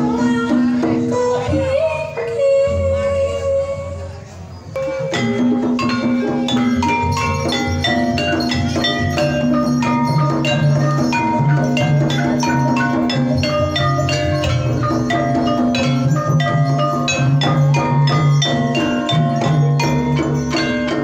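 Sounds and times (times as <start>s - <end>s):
gamelan metallophones playing melody: 0.0s - 3.0s, 4.7s - 21.0s.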